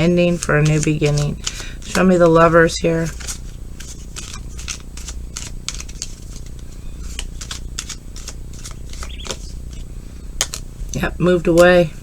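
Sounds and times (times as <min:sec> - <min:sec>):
cards being shuffled: 0:00.0 - 0:11.7
low hum: 0:00.0 - 0:12.0.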